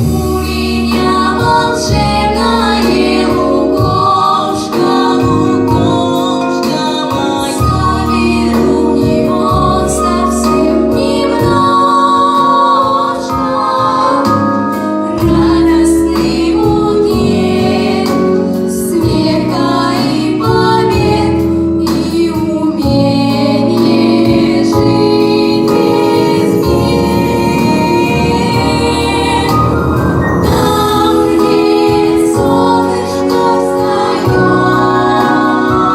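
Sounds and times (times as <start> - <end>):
instrumental accompaniment: 0.0 - 35.9
women singing together: 0.0 - 35.9.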